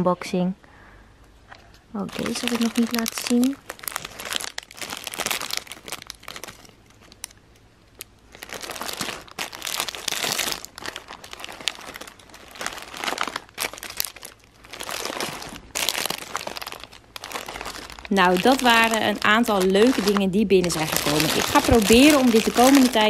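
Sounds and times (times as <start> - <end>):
plastic bags crinkling: 2.0 - 23.0.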